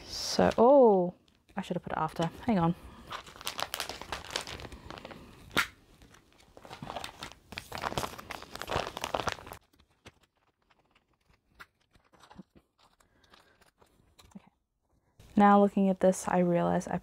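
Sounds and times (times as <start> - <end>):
plastic sleeves crinkling: 0.4 - 14.4.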